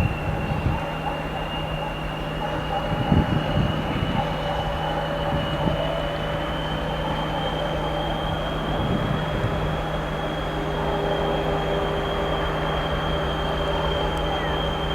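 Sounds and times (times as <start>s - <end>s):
diesel engine drone: 0.0s - 14.9s
turbocharger whistle: 0.0s - 14.9s.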